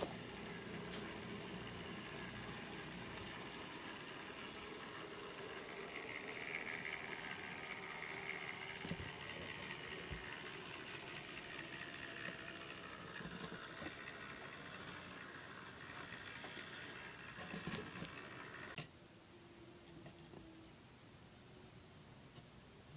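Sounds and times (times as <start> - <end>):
model train running noise: 0.0 - 18.8
faint high hum: 0.0 - 22.9.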